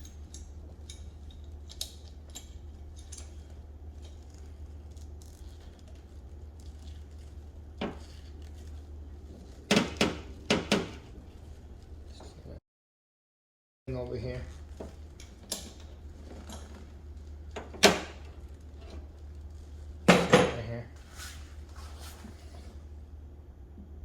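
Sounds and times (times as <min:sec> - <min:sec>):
steady low hum: 0:00.0 - 0:12.6, 0:13.9 - 0:24.0.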